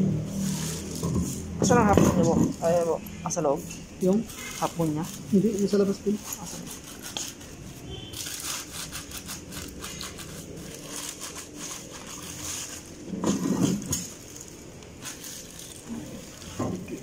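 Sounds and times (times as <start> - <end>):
plastic wrapping crinkling: 0.2 - 17.0.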